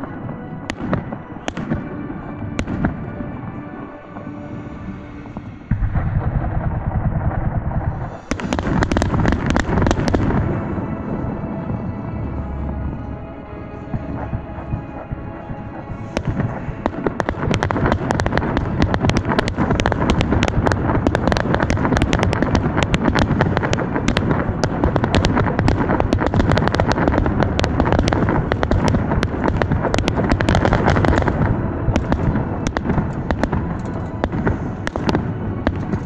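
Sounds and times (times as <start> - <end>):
fireworks bangs and crackling: 0.0 - 12.0, 13.7 - 36.0.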